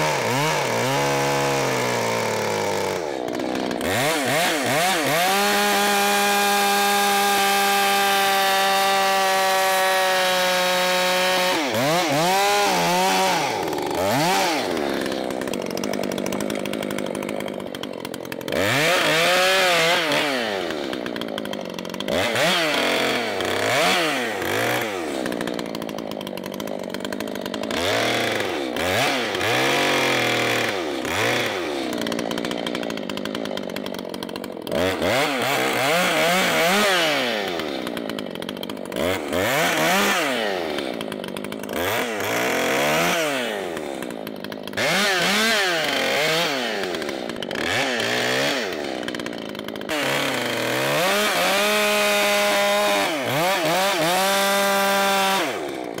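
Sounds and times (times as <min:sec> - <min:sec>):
chainsaw engine revving: 0:00.0 - 0:56.0.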